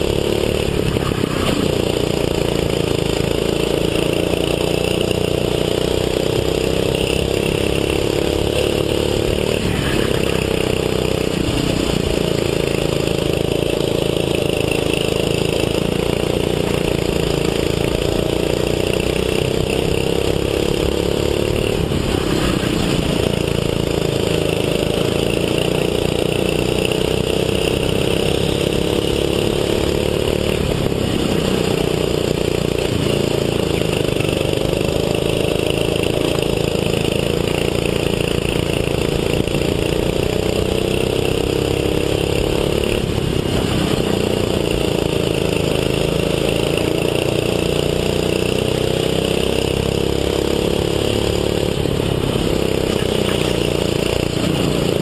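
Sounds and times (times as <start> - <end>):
go-kart engine at full throttle: 0.0 - 55.0.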